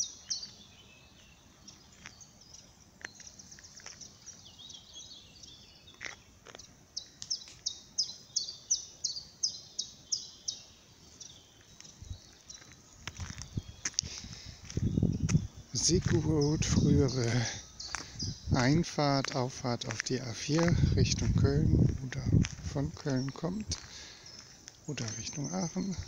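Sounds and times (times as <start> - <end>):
faint outdoor background noise: 0.0 - 26.0
songbirds chirping: 0.0 - 26.0.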